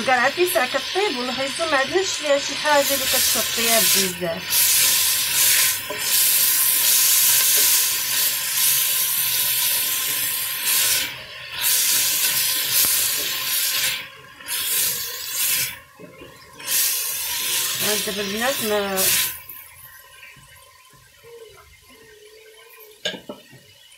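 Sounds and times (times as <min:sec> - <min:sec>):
spatula stirring in a pot: 0:00.0 - 0:23.8
vegetables sizzling in hot oil: 0:00.0 - 0:23.9.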